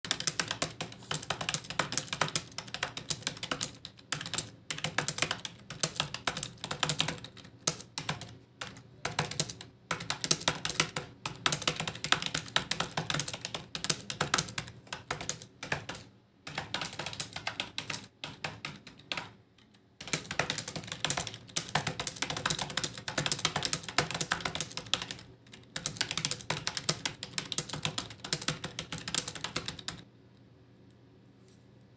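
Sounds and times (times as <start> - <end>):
typing on computer keyboard: 0.0 - 30.1.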